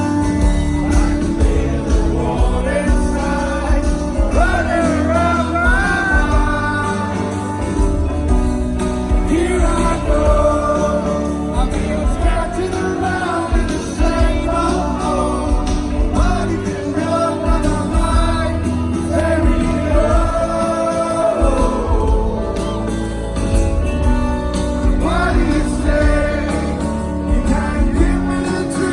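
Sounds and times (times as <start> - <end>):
man singing: 0.0 - 8.2, 9.0 - 23.2, 24.8 - 28.9
live band playing: 0.0 - 28.9.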